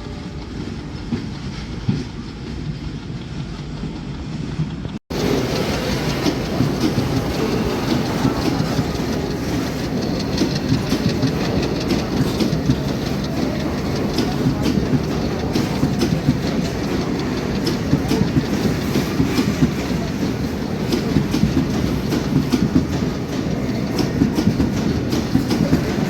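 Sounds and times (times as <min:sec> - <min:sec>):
freight train rolling past: 0:00.0 - 0:26.0
wheels clattering over rail joints: 0:04.9 - 0:26.0.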